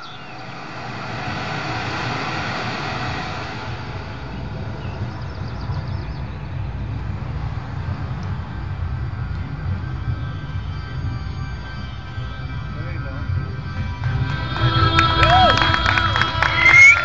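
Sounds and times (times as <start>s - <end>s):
deep rumbling rushing sound: 0.0s - 17.0s
faint high twittering tones: 0.0s - 17.0s.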